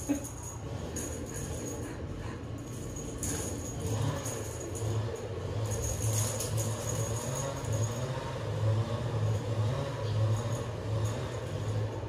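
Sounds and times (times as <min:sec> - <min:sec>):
cat toy jingling and rattling: 0:00.0 - 0:12.0
low pulsing hum: 0:00.0 - 0:12.0.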